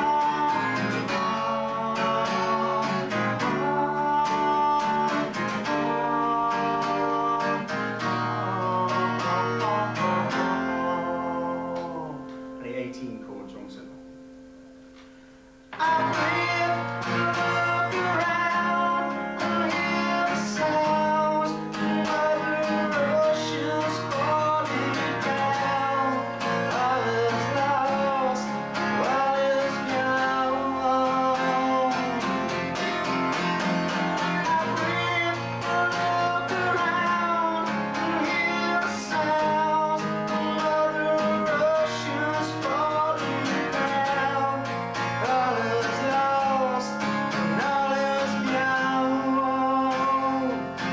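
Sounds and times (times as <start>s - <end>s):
guitar plucked notes: 0.0s - 50.9s.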